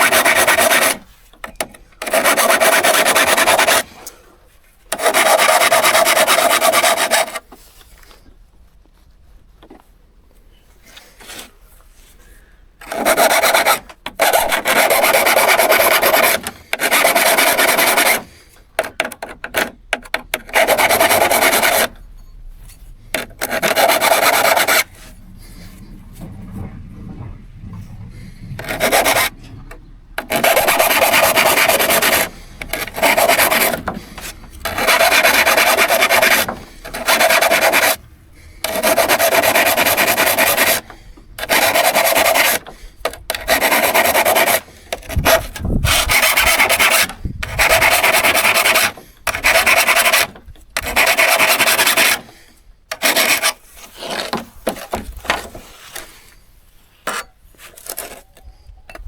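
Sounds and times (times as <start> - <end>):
scraping a steel saw blade: 0.0 - 3.9, 4.9 - 7.6, 12.8 - 26.0, 28.5 - 38.0, 38.6 - 56.3, 57.0 - 59.0.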